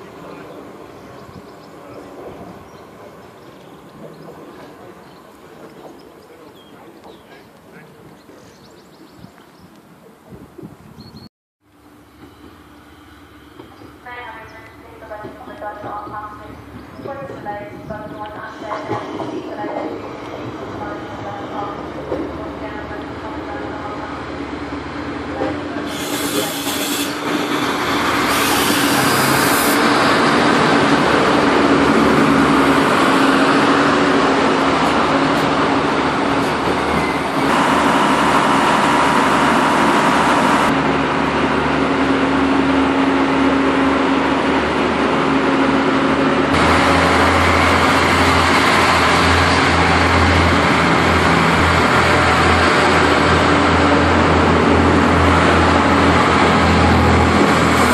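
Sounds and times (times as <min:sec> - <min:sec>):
diesel railcar engines running: 0:00.0 - 0:10.7, 0:11.6 - 0:57.9.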